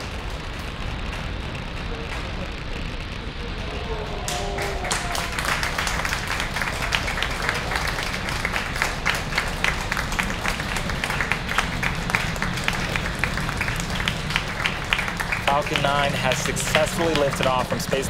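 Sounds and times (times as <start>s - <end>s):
people applauding: 0.0s - 18.0s
steady low rumble: 0.0s - 18.0s.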